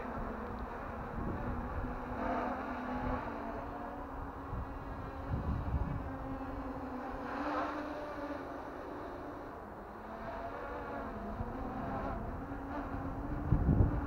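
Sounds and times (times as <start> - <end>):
drone propellers humming: 0.0 - 14.0
wind rumbling on microphone: 0.0 - 14.0.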